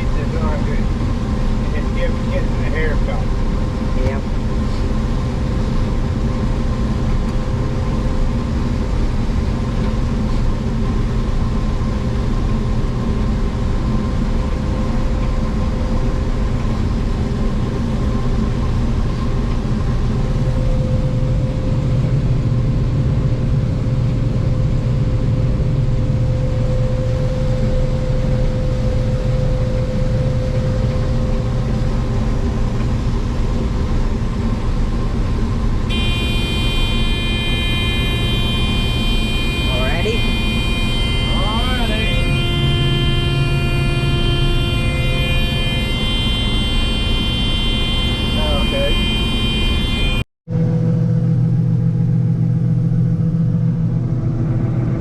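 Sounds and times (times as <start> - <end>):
combine engine drone: 0.0 - 55.0
steady whine: 0.0 - 55.0.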